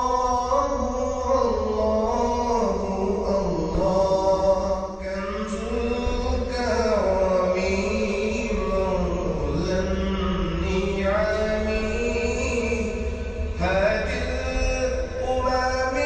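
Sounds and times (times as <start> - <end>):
low drone: 0.0 - 16.0.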